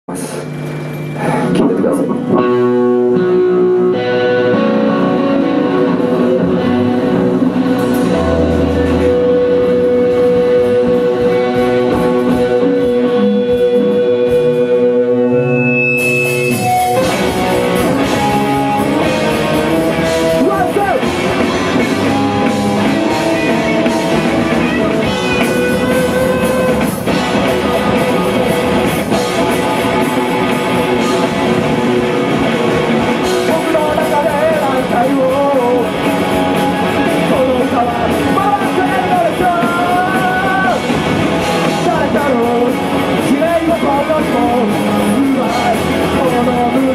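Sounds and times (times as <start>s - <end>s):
electric guitar playing: 0.1s - 46.9s
rock band playing: 0.1s - 46.9s.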